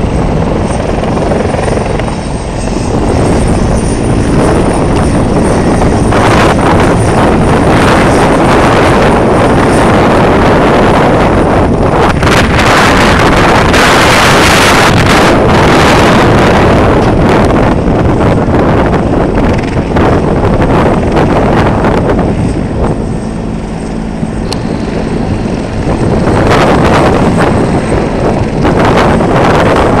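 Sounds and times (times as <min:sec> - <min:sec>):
helicopter engine and rotor: 0:00.0 - 0:30.0
wind buffeting microphone: 0:00.0 - 0:30.0.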